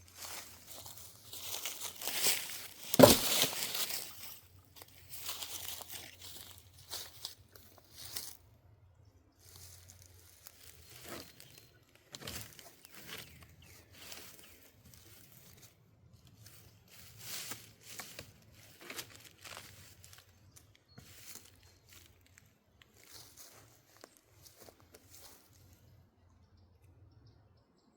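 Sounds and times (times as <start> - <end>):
faint rustling and crackling: 0.0 - 8.4, 9.4 - 25.9.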